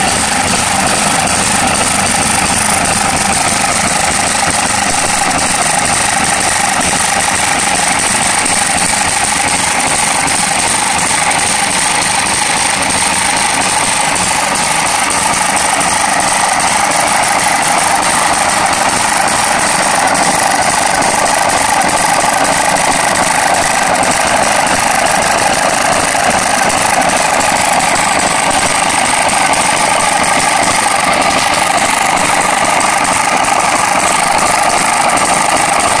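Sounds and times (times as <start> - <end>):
small engine running steadily: 0.0 - 36.0.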